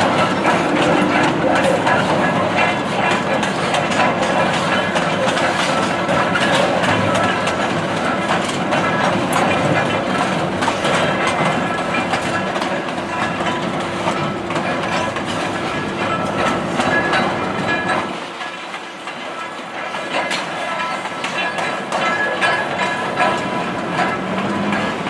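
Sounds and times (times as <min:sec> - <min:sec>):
deep train rumble: 0:00.0 - 0:25.0
train wheels clattering over rail joints: 0:00.0 - 0:25.0.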